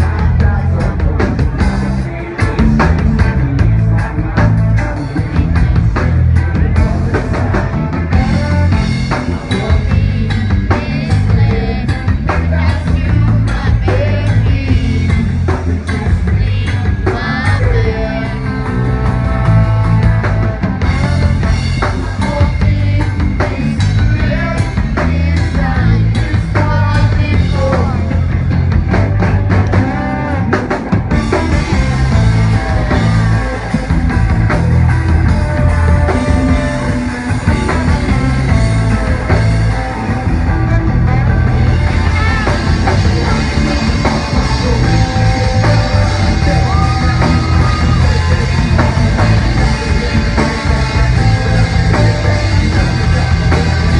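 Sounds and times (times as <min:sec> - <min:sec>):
rock song with singing: 0:00.0 - 0:53.9.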